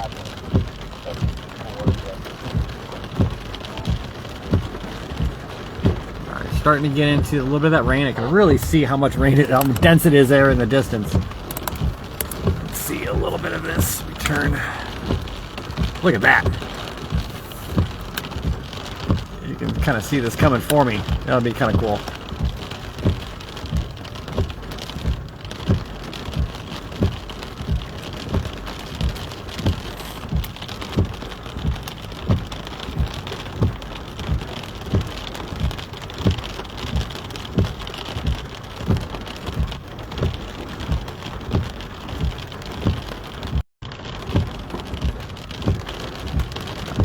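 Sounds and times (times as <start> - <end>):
rain falling: 0.0 - 47.0
regular low thump: 0.4 - 43.6, 44.3 - 47.0.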